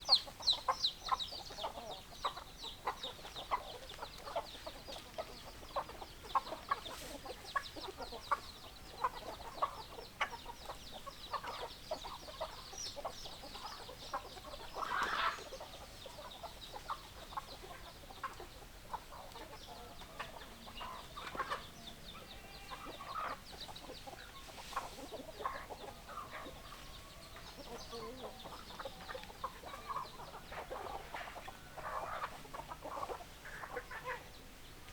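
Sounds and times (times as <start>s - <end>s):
hens clucking: 0.1s - 34.5s.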